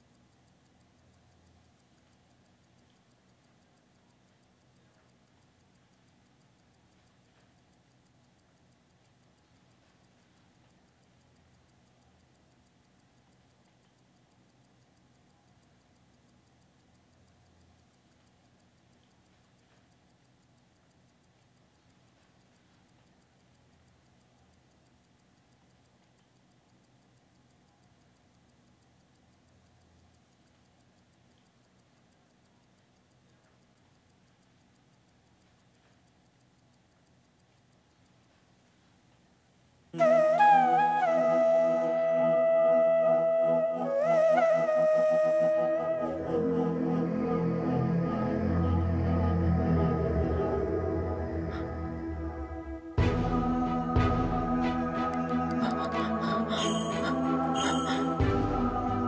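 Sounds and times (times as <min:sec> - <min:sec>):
faint even ticking: 0:00.0 - 0:59.0.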